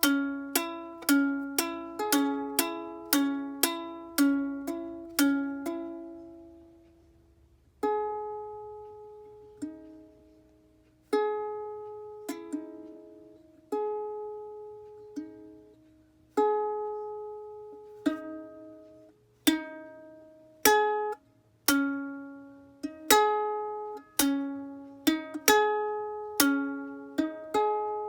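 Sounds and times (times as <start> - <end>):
ukulele chords strummed: 0.0 - 28.0.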